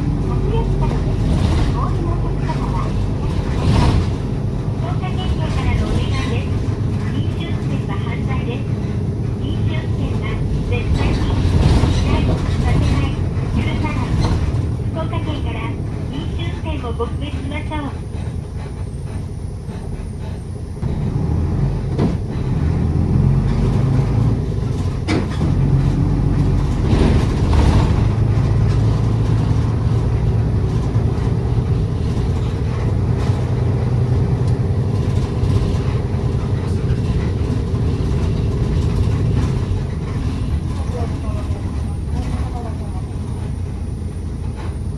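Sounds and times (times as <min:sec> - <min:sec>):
bus engine droning: 0:00.0 - 0:44.9.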